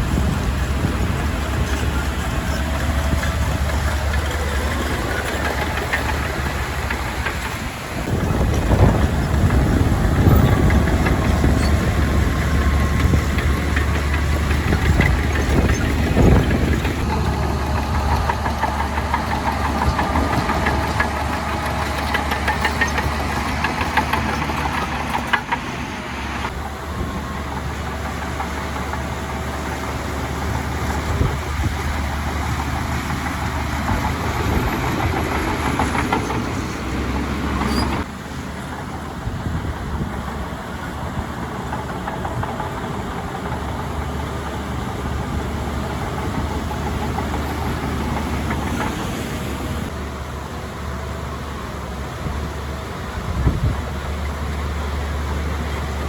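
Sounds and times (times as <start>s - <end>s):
knocks and rattles: 0.0s - 38.1s, 38.7s - 50.0s
diesel engine of earthmoving machine: 0.0s - 56.0s.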